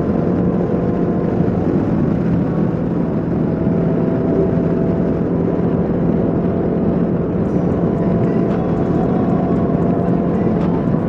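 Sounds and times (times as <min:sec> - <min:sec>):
motorcycle engine cruising: 0:00.0 - 0:11.0
wind rush: 0:00.0 - 0:11.0.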